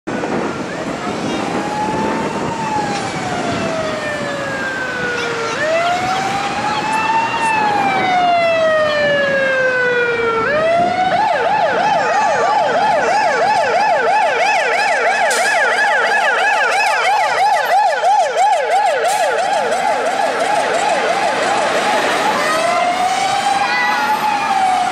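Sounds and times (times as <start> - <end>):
fire engine siren wailing and yelping: 0.1 - 24.9.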